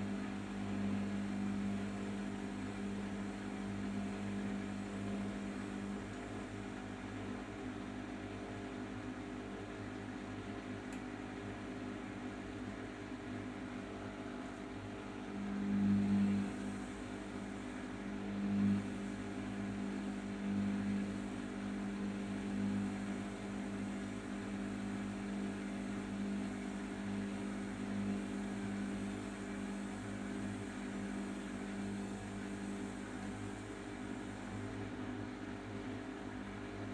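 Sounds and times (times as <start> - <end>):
washing machine motor humming: 0.0 - 36.9.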